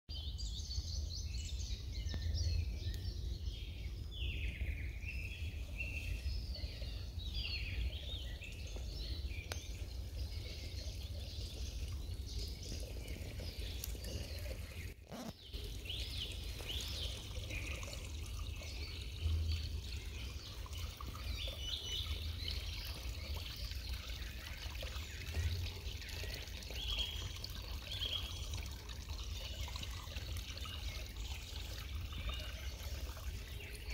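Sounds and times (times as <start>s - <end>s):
stream trickling and gurgling: 0.1s - 33.9s.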